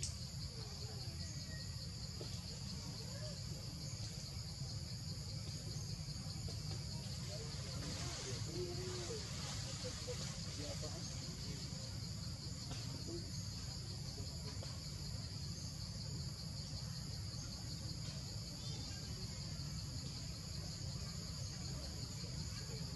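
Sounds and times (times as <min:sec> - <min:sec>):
insects trilling: 0:00.0 - 0:22.9.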